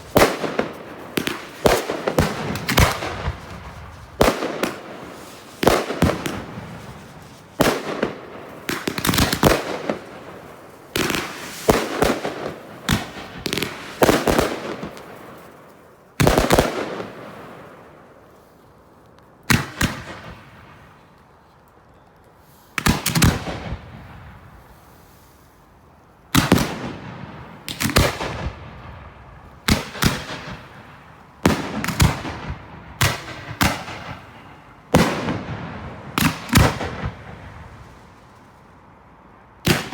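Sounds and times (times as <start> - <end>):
fireworks bangs and crackles: 0.0 - 18.2, 19.5 - 21.2, 22.6 - 25.5, 26.3 - 38.8, 39.6 - 39.9.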